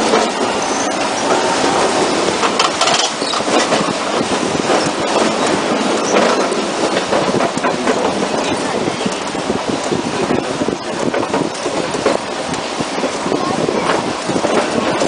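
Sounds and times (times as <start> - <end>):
train carriage rattling: 0.0 - 15.0
wheels clacking on rails: 0.0 - 15.0.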